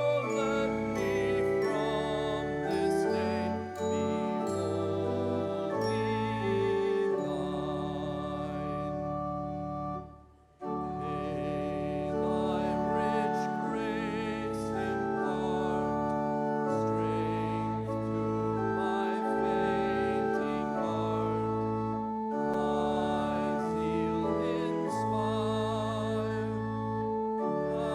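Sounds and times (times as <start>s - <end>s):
church organ playing sustained chords: 0.0s - 27.9s.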